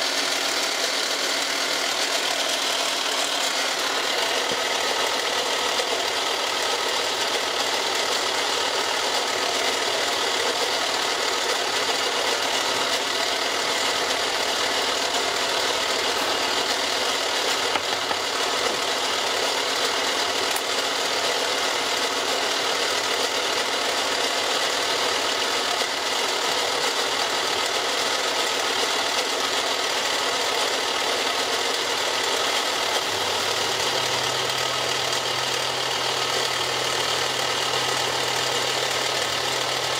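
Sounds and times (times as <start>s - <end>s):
milling machine cutting plastic: 0.0s - 39.9s.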